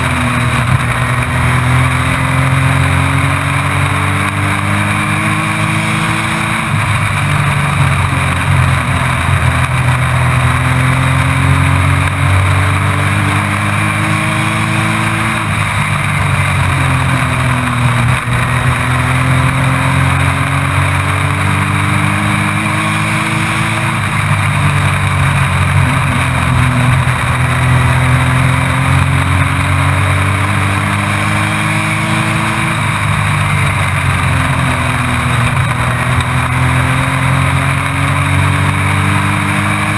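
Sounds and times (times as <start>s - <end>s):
race truck engine at full load: 0.0s - 39.9s.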